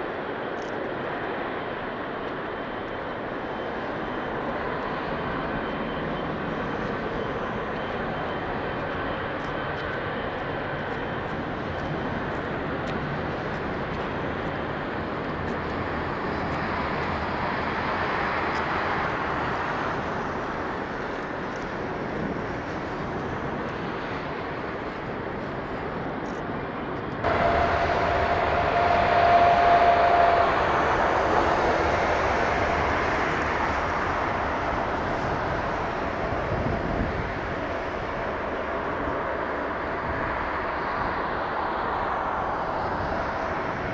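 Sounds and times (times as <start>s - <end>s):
jet engine whine: 0.0s - 43.9s
jet engines running: 0.0s - 43.9s.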